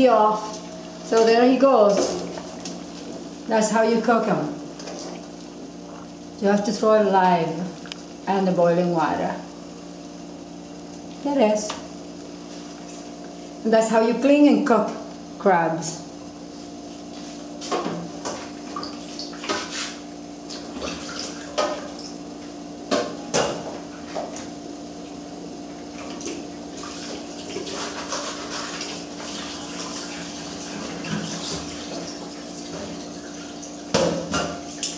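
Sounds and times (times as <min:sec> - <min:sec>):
steady low hum: 0:00.0 - 0:34.9
water boiling in a pot: 0:00.0 - 0:34.9.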